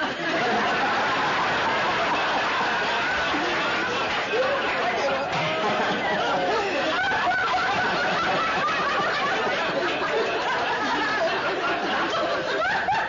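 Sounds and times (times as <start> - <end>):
audience laughing and chattering: 0.0 - 13.0.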